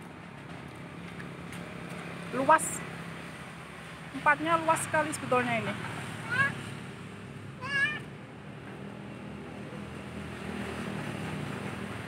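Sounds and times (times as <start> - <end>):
open-air ambience: 0.0 - 12.0.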